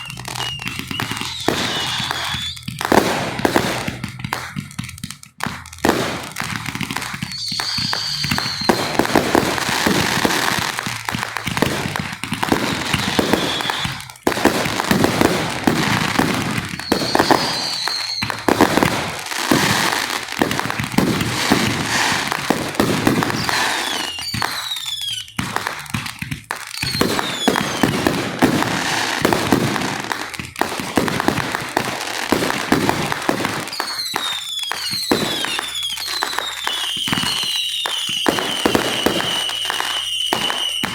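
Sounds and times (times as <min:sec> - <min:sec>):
fireworks bangs and crackling: 0:00.0 - 0:40.9
whistling fireworks shells: 0:00.0 - 0:40.9.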